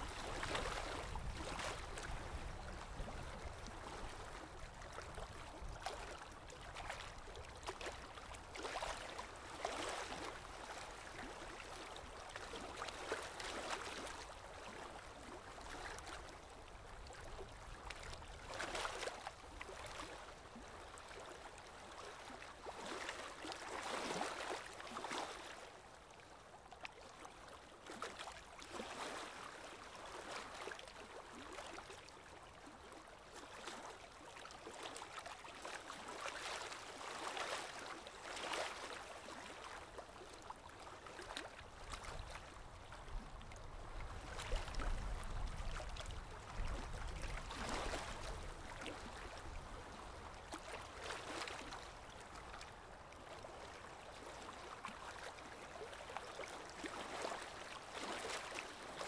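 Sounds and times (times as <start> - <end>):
lake water lapping at shore: 0.0 - 59.0.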